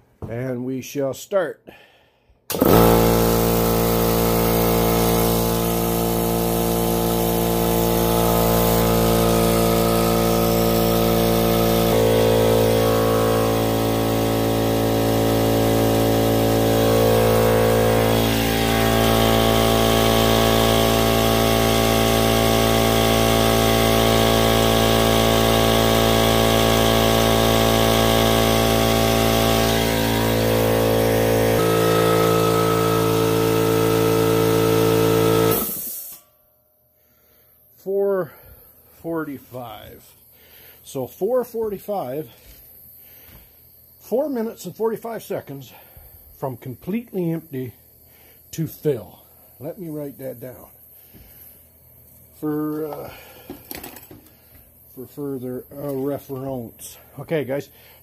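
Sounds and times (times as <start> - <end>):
air compressor running: 2.5 - 36.4, 37.0 - 58.0.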